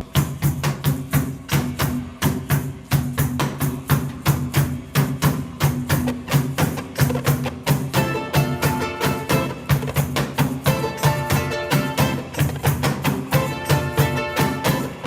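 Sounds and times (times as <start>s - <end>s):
hand percussion strikes: 0.0s - 15.0s.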